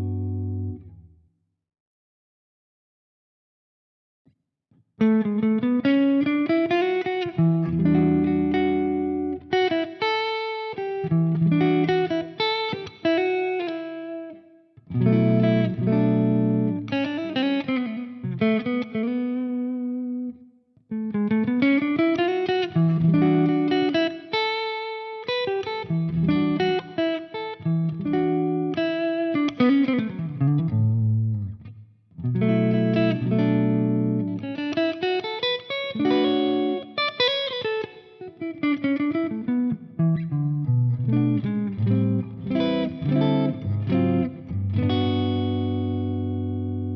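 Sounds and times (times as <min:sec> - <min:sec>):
electric guitar playing: 0:00.0 - 0:01.1, 0:05.0 - 0:46.9.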